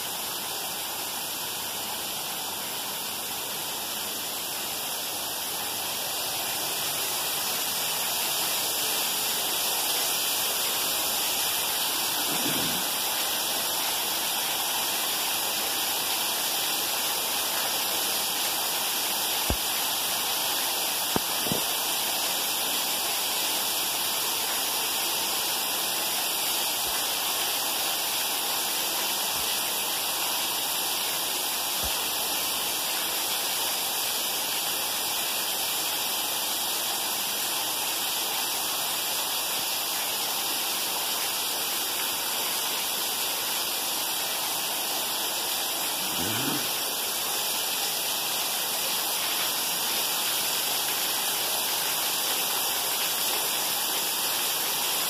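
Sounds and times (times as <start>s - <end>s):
heavy rain splashing on pavement: 0.0s - 55.0s.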